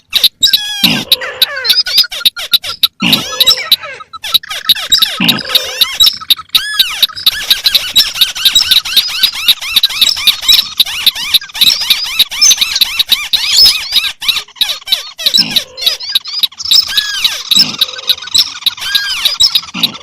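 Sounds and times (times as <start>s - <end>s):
crakes chirping: 0.0s - 20.0s.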